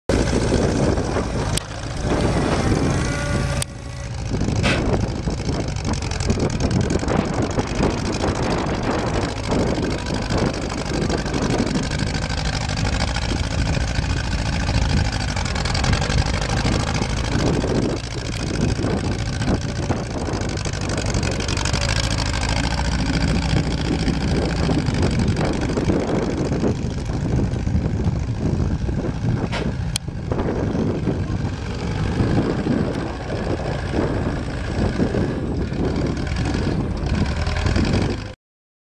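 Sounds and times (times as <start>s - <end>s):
tractor engine running: 0.1s - 38.4s.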